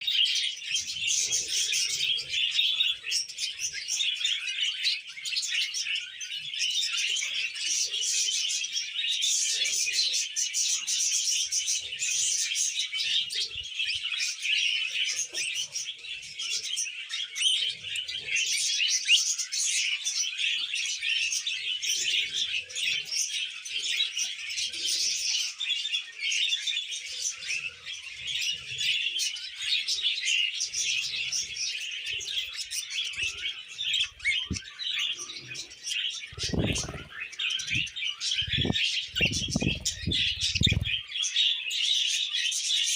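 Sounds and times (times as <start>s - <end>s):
budgerigars chattering: 0.1s - 42.9s.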